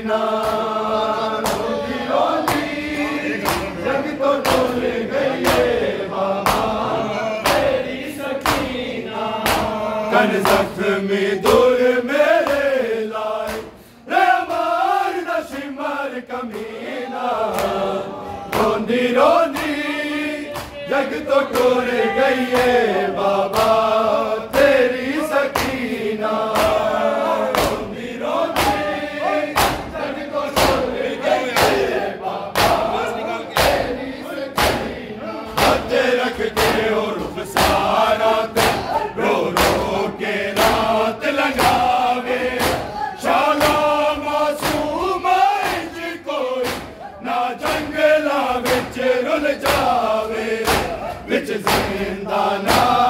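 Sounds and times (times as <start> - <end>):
men chanting in unison: 0.0 - 53.0
hands slapping on chests: 0.3 - 0.8, 1.4 - 10.8, 11.4 - 13.8, 17.5 - 17.9, 18.5 - 19.9, 20.5 - 33.0, 33.6 - 34.9, 35.6 - 47.0, 47.6 - 53.0.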